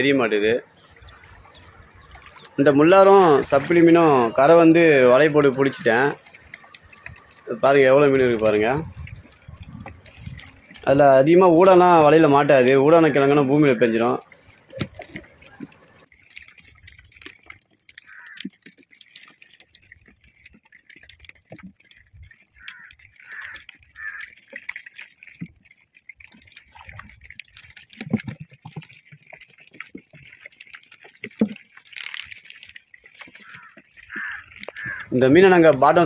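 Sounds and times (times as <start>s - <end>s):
wet drips and small splashes: 0.0s - 36.0s.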